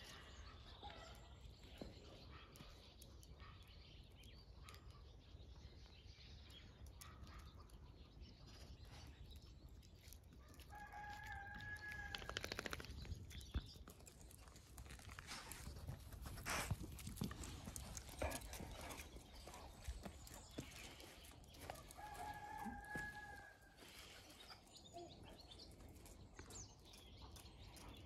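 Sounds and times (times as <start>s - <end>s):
faint outdoor background: 0.0s - 28.0s.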